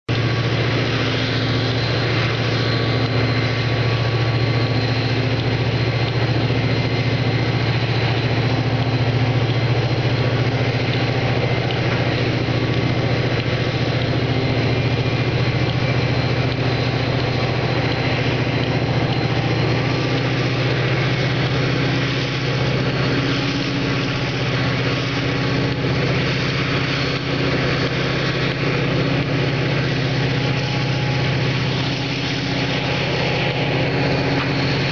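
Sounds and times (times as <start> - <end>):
locomotive engine drone: 0.0 - 34.9.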